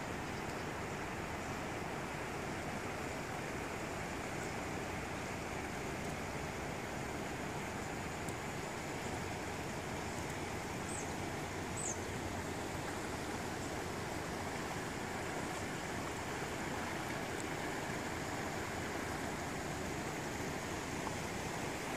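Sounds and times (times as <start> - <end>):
river rushing in flood: 0.0 - 21.9.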